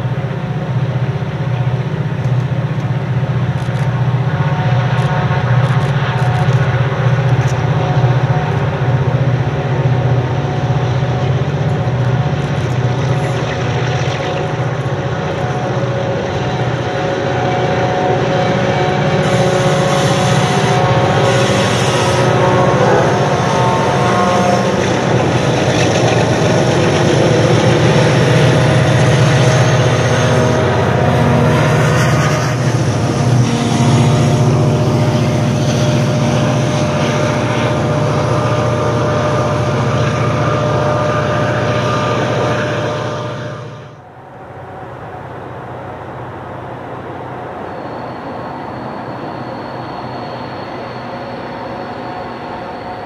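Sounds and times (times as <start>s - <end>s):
diesel locomotives labouring: 0.0s - 53.0s
distant diesel locomotive approaching: 0.0s - 53.0s.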